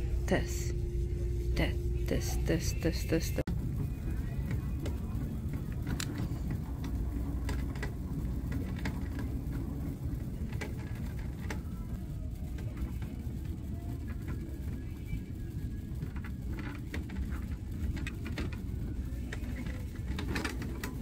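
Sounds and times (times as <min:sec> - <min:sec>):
shopping cart wheels rumbling: 0:00.0 - 0:21.0
light clicks and rattles: 0:03.8 - 0:21.0.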